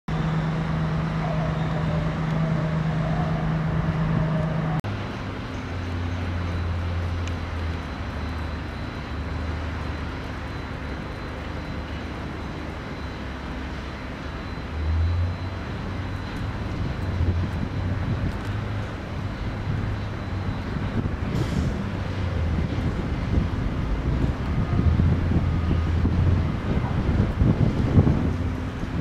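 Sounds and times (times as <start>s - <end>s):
road traffic: 0.1s - 29.0s.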